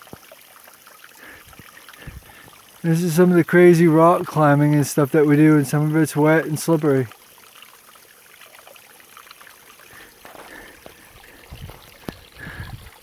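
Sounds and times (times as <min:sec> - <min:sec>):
waterfall trickling over rock: 0:00.0 - 0:13.0.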